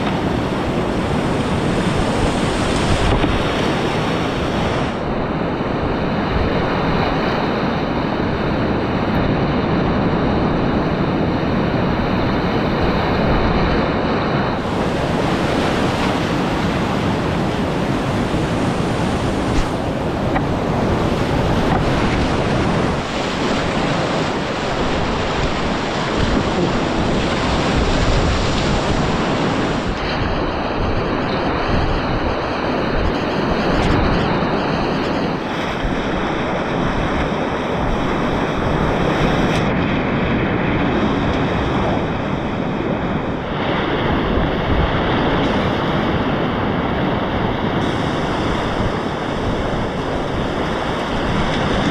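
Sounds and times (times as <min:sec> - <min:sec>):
whitewater rapids roaring: 0:00.0 - 0:39.7, 0:40.4 - 0:51.9.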